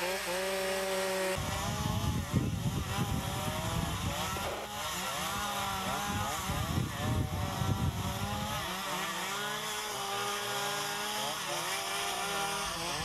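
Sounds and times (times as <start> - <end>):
chainsaw engines revving: 0.0 - 13.0.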